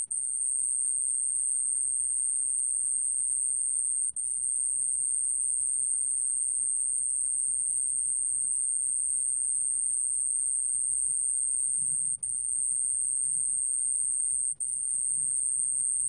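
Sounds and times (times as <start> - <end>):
cricket high-pitched trill: 0.0 - 16.0.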